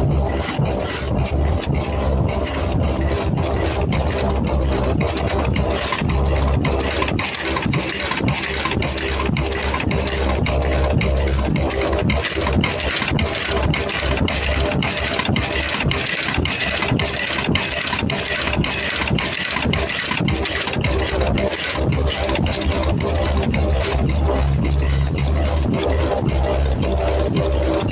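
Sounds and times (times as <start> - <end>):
welding machine pulsing mechanical noise: 0.0 - 27.9.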